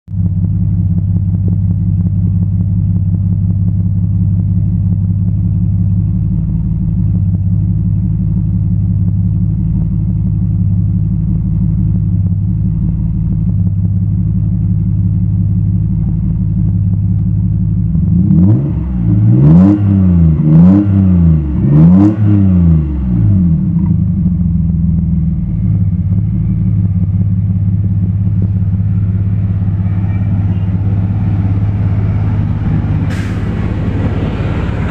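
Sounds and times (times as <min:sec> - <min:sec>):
car engine idling and revving: 0:00.1 - 0:34.9.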